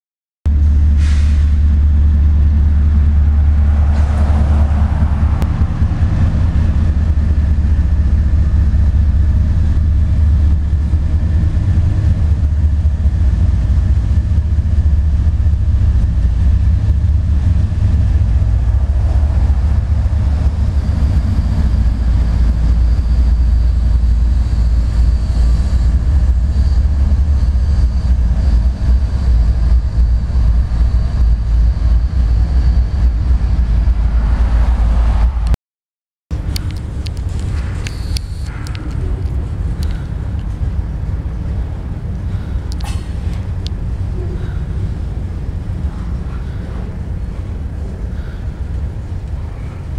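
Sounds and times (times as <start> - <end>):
freight train rumbling past: 0.5 - 35.6, 36.3 - 49.9.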